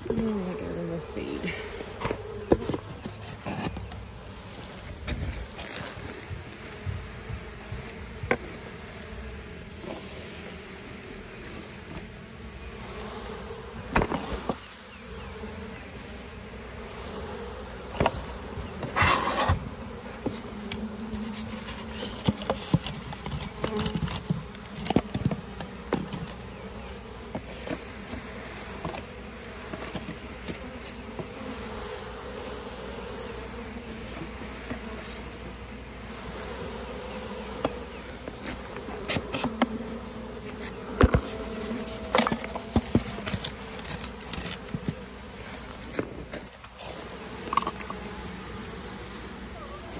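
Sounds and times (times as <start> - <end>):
honeybees buzzing: 0.0 - 49.9.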